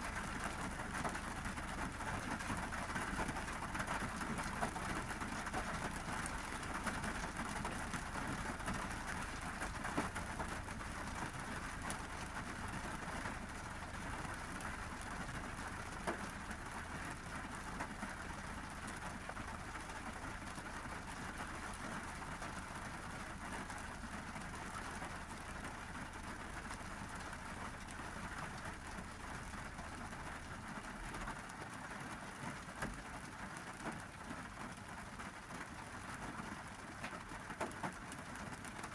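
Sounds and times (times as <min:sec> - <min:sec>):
rain falling on a car: 0:00.0 - 0:38.9.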